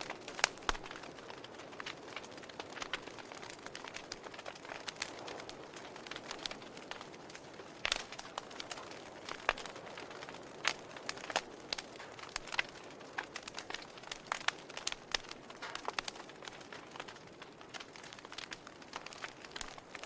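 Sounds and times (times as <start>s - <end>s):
sharp pops from fire: 0.0s - 20.0s
wood fire crackling: 0.0s - 20.0s.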